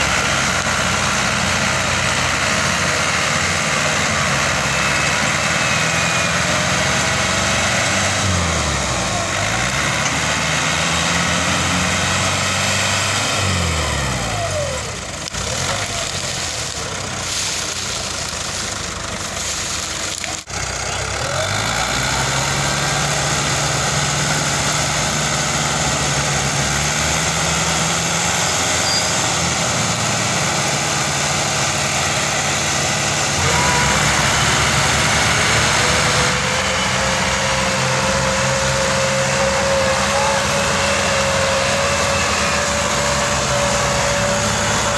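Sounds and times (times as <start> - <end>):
tractor diesel engines under load: 0.0 - 44.9.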